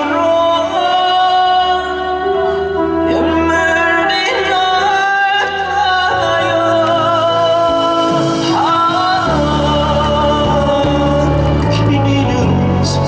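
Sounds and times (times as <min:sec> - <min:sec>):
backing chords: 0:00.0 - 0:13.0
person singing long notes: 0:00.0 - 0:13.0.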